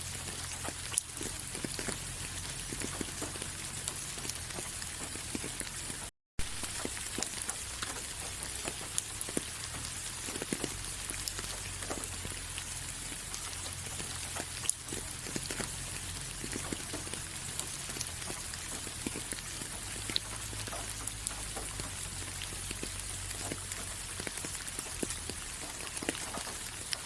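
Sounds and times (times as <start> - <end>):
rain falling: 0.0 - 27.0
raindrops ticking: 0.0 - 27.0.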